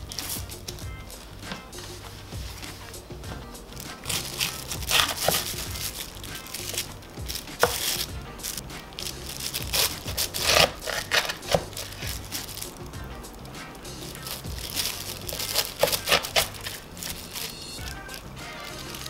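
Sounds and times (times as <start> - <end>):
knife cutting cabbage: 0.0 - 19.0
plastic wrap crinkling: 0.0 - 19.0.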